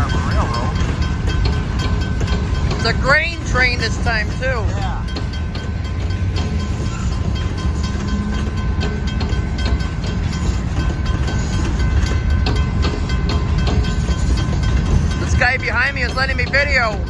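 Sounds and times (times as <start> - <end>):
freight train rumbling: 0.0 - 17.0
wheels clicking over rail joints: 0.0 - 17.0.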